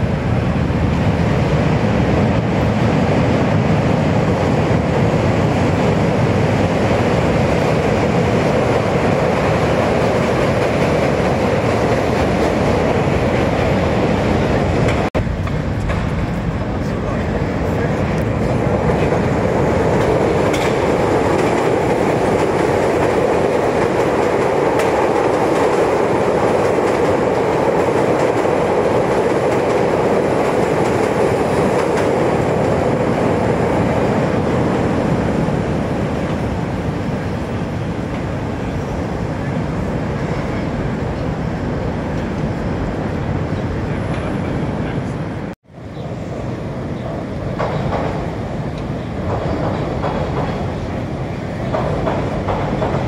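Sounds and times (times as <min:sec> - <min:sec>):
elevated train rumbling: 0:00.0 - 0:53.0.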